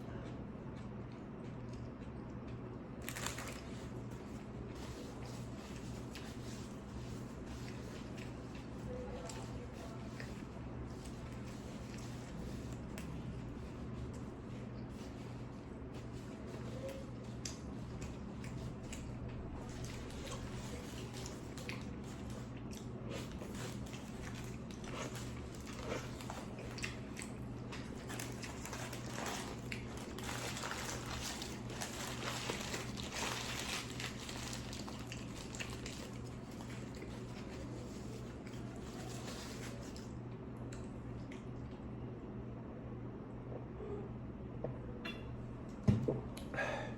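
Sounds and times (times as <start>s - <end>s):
steady low hum: 0.0s - 46.9s
person chewing crunchy sandwich: 0.1s - 41.7s.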